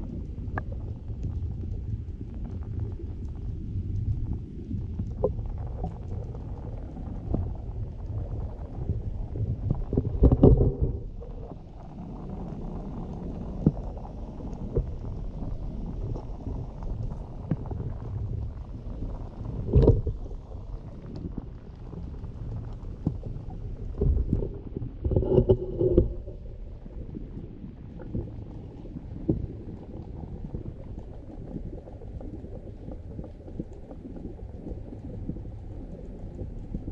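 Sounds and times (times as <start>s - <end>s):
muffled underwater stream rumble: 0.0s - 36.9s
water gurgling: 0.0s - 36.9s.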